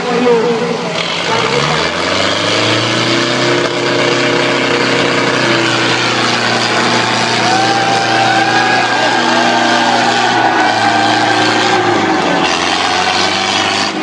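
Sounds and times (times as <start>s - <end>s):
tractor engines under heavy load: 0.0s - 14.0s.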